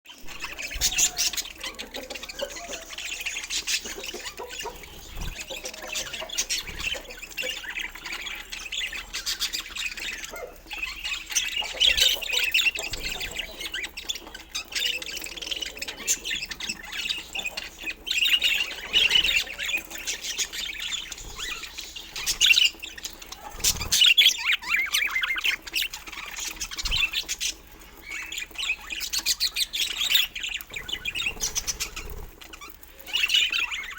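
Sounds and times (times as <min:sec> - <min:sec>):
budgerigars chattering and squawking: 0:00.1 - 0:33.9.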